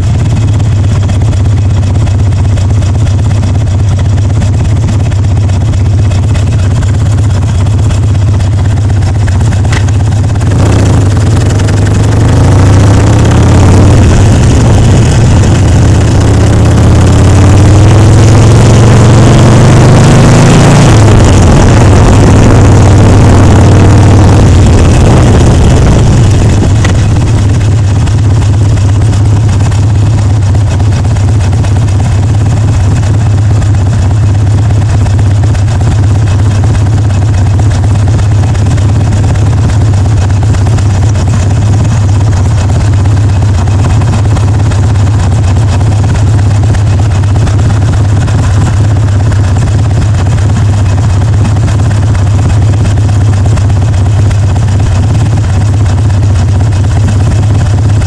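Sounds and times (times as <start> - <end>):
motorcycle engine idling: 0.0 - 58.0
motorcycle engine revving: 0.0 - 58.0.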